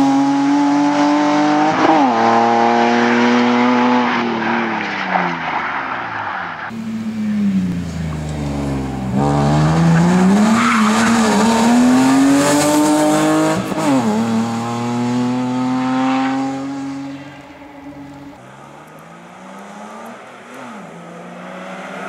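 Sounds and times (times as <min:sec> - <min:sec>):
rally car engine accelerating: 0:00.0 - 0:04.8, 0:06.7 - 0:22.0.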